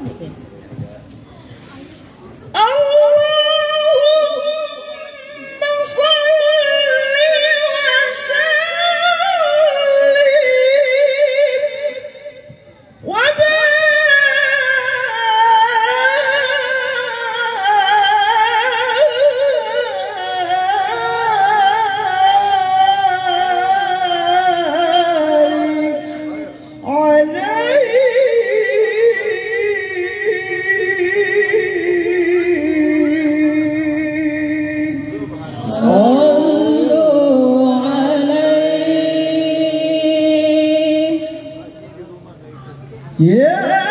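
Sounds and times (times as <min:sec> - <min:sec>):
woman singing unaccompanied: 0:02.6 - 0:41.7, 0:43.2 - 0:43.9.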